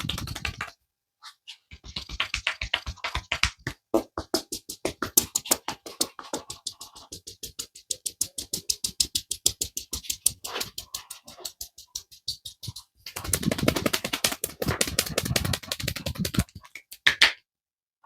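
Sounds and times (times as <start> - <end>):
hands tapping rapidly on a head: 0.0 - 0.8, 1.7 - 17.3
hand slaps: 2.0 - 17.4.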